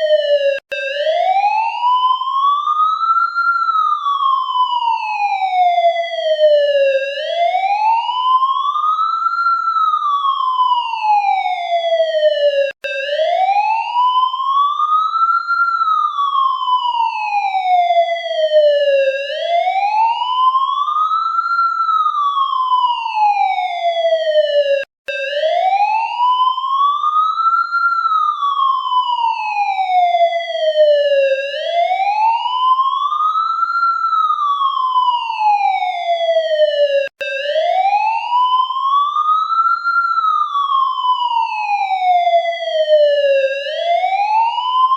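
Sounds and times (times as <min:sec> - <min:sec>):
police siren wailing: 0:00.0 - 0:44.9.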